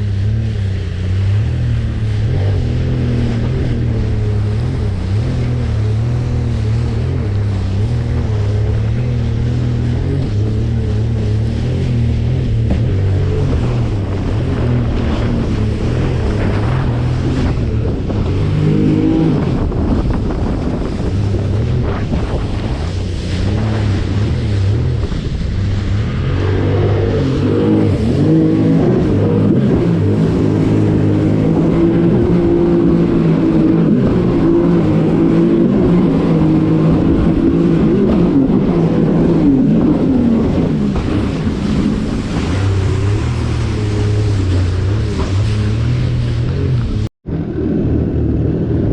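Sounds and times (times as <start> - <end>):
jet ski engine: 0.0 - 48.9
wind buffeting microphone: 0.0 - 48.9.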